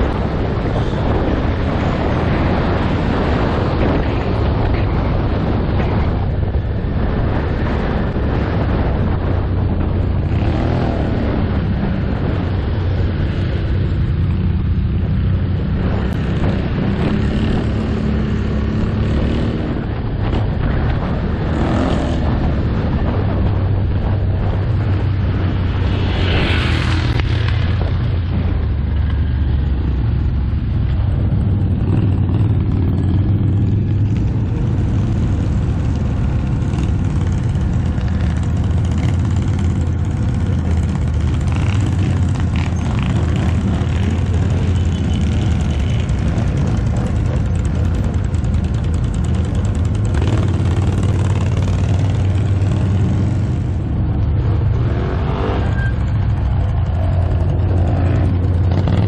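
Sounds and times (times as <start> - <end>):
atv engine running: 0.0 - 59.0
wind noise on microphone: 0.0 - 59.0.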